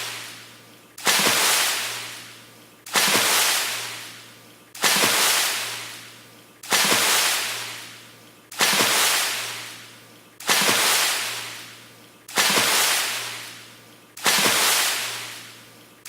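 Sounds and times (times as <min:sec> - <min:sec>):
faint steady hum: 0:00.0 - 0:16.0
fast water splash: 0:01.0 - 0:15.6.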